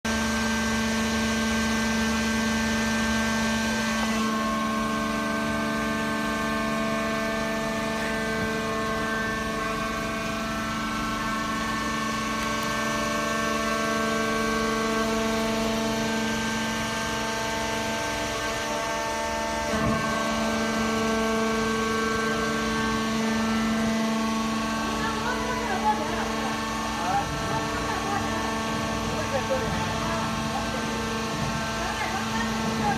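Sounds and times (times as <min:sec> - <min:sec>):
hydraulic power unit humming: 0:00.0 - 0:32.9.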